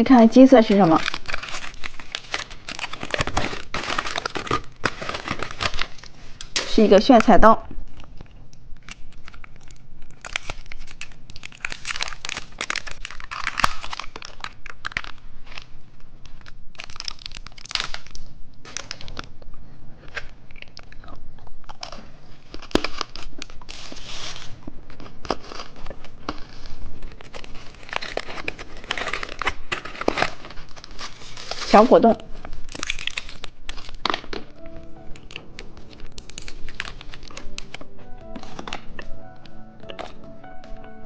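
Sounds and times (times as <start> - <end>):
plastic wrapper crinkling and tearing: 0.0 - 41.0.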